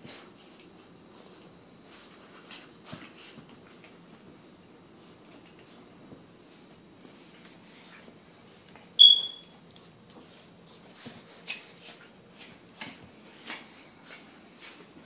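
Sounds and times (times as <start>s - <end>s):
dogs scuffling and snapping: 0.0s - 8.9s, 9.6s - 15.0s.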